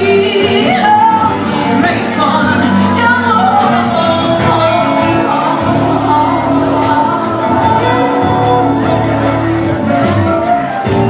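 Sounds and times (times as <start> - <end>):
steady bass line: 0.0 - 11.0.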